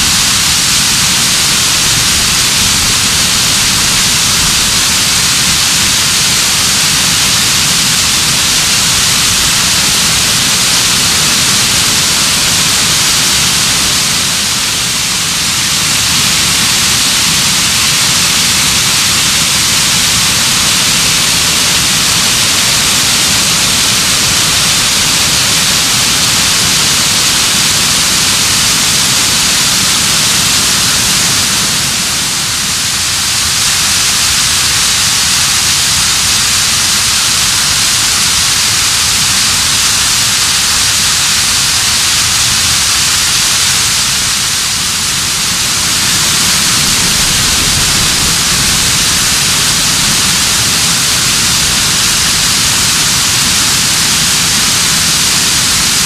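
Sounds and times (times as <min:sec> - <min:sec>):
waterfall rushing over boulders: 0:00.0 - 0:56.0.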